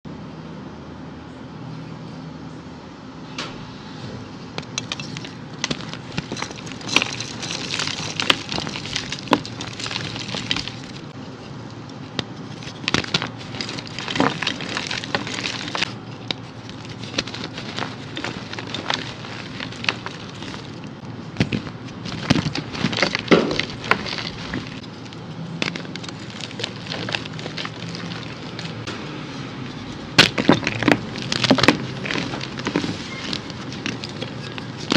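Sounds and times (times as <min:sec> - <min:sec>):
chalk blocks crunching by hand: 0:04.7 - 0:11.1, 0:11.9 - 0:34.9.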